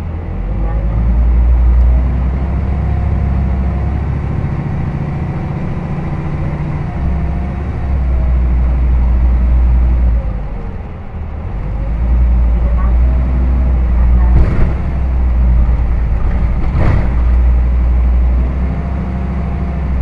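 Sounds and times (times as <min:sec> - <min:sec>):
bus diesel engine droning: 0:00.0 - 0:20.0
road noise: 0:00.0 - 0:20.0.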